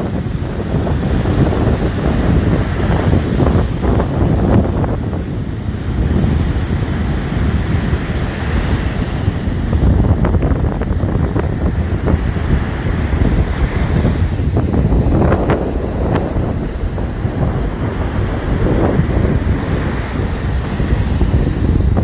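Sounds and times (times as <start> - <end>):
surf washing on shore: 0.0 - 22.0
wind buffeting microphone: 0.0 - 22.0.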